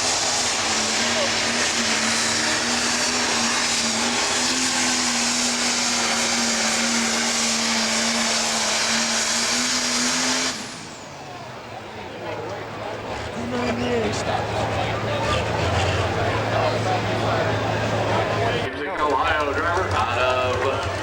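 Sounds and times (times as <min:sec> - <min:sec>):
diesel engine at high revs: 0:00.0 - 0:18.7, 0:19.5 - 0:21.0.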